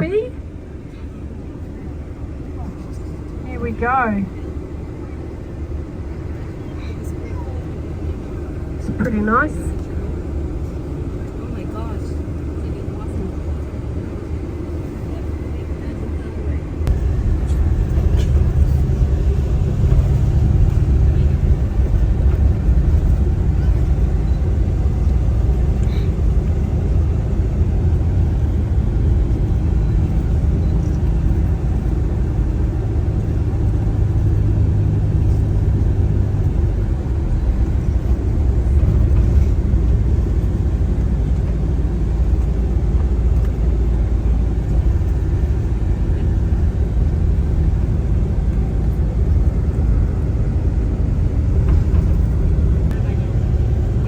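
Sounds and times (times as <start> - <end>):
car engine and tyre road noise: 0.0 - 54.0.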